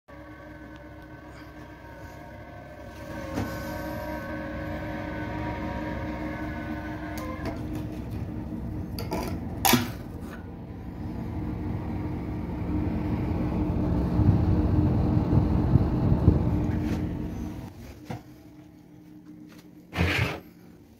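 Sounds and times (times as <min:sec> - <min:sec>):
low rumble: 0:00.1 - 0:17.7
ventilation extractor humming: 0:00.1 - 0:20.9.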